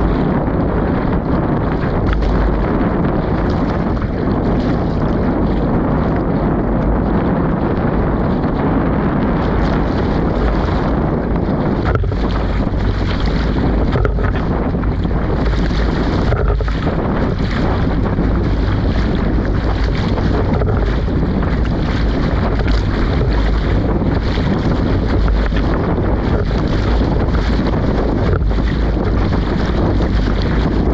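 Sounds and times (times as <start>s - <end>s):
choppy lake water: 0.0s - 30.9s
strong wind on microphone: 0.0s - 30.9s.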